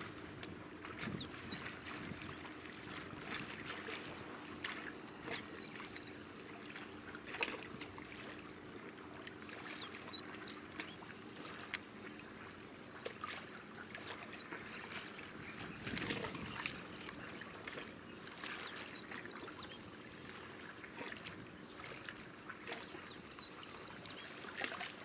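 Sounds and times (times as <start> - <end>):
water splashes: 0.0 - 25.0.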